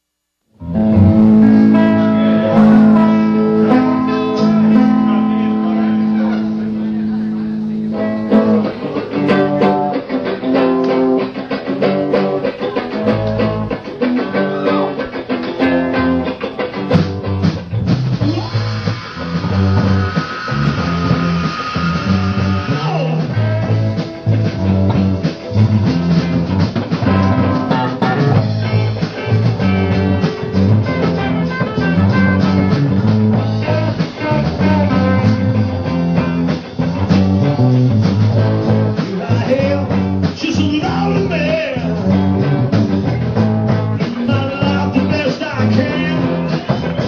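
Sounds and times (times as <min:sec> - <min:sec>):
drums: 0:00.0 - 0:47.0
bass guitar line: 0:00.6 - 0:47.0
electric guitar: 0:00.6 - 0:47.0.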